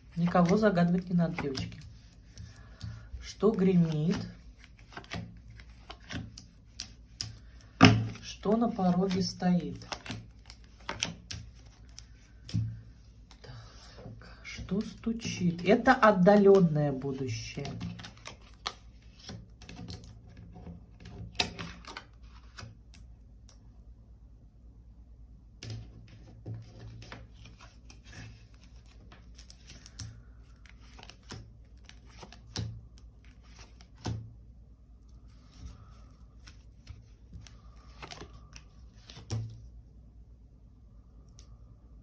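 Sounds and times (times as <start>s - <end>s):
cards rustling while shuffled: 0.0s - 23.0s, 26.1s - 34.2s, 35.2s - 39.7s.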